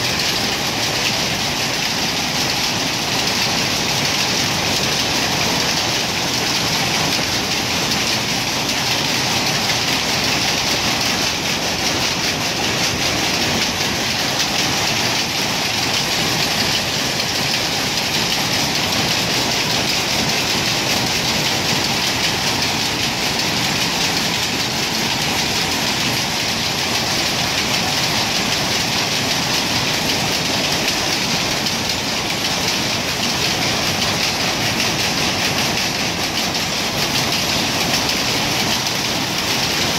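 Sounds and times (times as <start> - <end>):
power looms clattering: 0.0 - 39.9.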